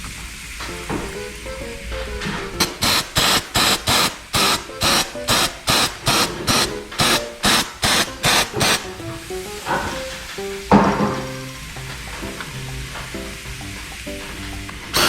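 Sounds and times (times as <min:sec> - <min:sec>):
background music: 0:00.0 - 0:15.0
spray can squirting bursts: 0:00.0 - 0:15.0.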